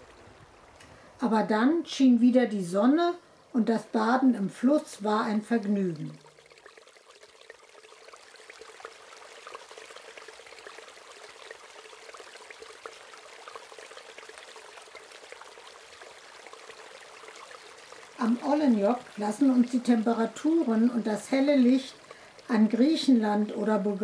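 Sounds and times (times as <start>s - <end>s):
river water splashing: 0.0s - 0.9s, 5.4s - 24.0s.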